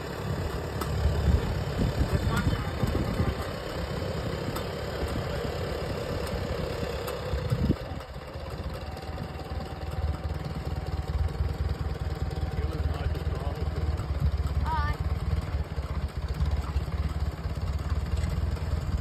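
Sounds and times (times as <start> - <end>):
farm machine engine rumbling: 0.0 - 19.0.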